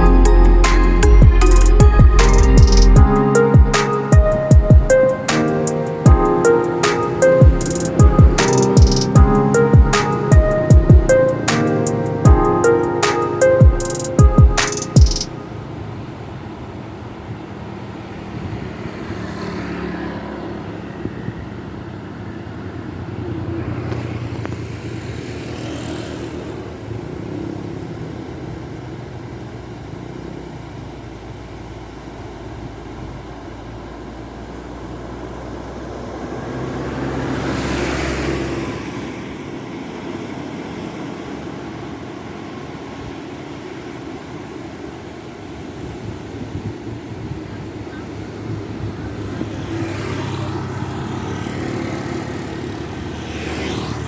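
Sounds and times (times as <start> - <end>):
vehicles passing: 0.0 - 44.0, 46.1 - 54.0.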